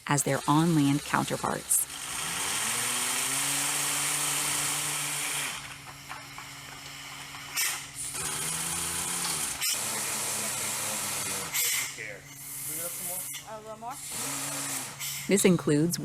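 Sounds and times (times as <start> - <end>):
machinery humming and hissing: 0.0 - 16.0.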